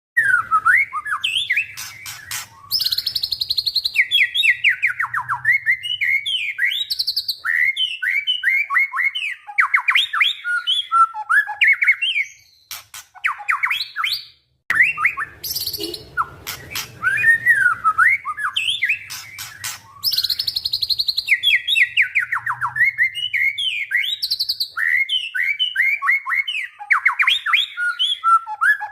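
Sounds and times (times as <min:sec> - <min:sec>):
bird singing whistles and trills: 0:00.2 - 0:28.9.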